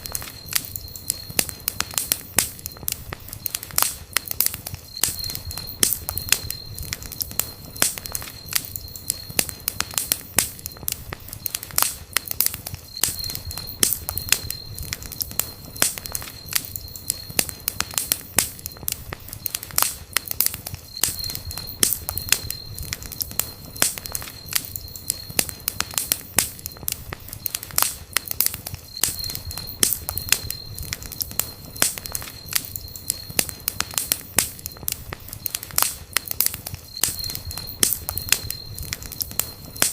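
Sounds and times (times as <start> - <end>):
low rumble of flames: 0.0 - 39.9
wood popping and snapping: 0.0 - 39.9.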